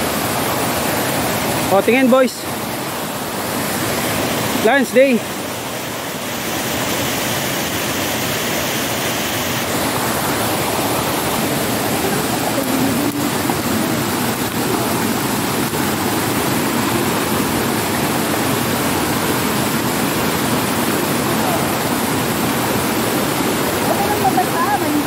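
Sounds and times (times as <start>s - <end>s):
stream rushing over stones: 0.0s - 25.0s.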